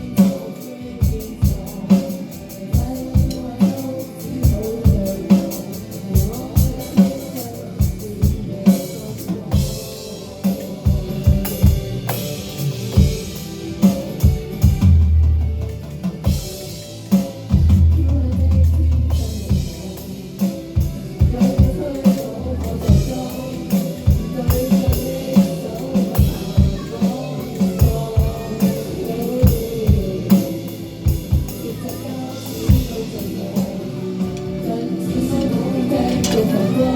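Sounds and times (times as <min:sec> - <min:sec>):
drum kit beat: 0:00.0 - 0:36.9
pop-rock music: 0:00.0 - 0:36.9.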